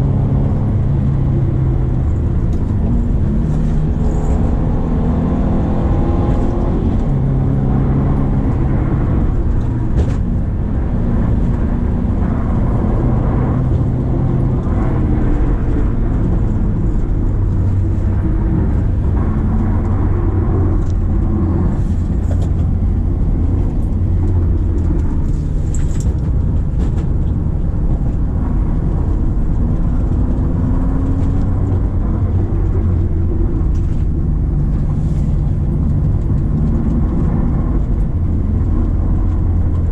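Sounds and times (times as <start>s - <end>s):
car engine under load: 0.0s - 39.9s
low road rumble: 0.0s - 39.9s.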